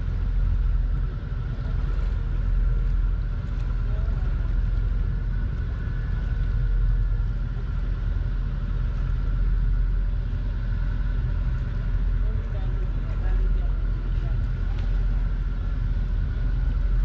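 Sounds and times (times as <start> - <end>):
boat engine rumbling: 0.0 - 17.0
faint steady whine: 0.0 - 17.0.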